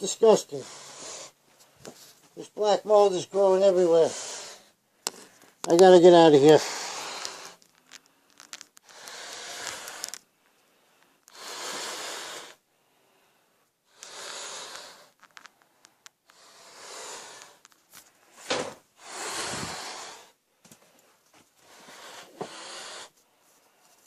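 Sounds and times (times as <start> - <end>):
heavy rhythmic breathing: 0.0 - 2.4, 3.0 - 24.0.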